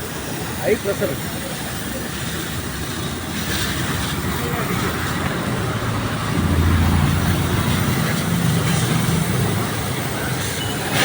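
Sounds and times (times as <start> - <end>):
pressure washer running: 0.0 - 11.0.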